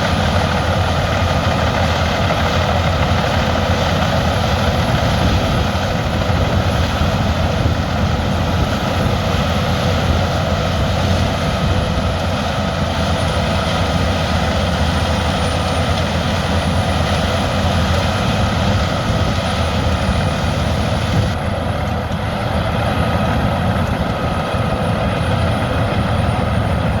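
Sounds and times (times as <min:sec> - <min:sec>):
wood chipper running: 0:00.0 - 0:27.0.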